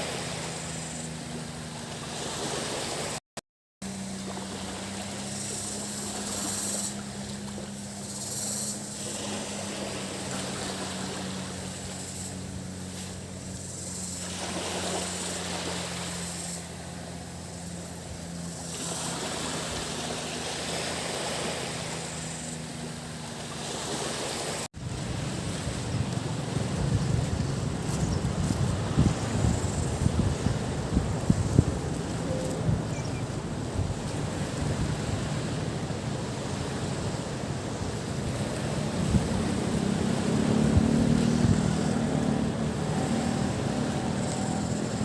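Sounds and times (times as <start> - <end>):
cicadas buzzing: 0.0 - 3.2, 3.8 - 45.0
motorboat engine hum: 0.0 - 3.2, 3.8 - 45.0
sea waves washing onto beach: 0.0 - 3.2, 3.8 - 45.0.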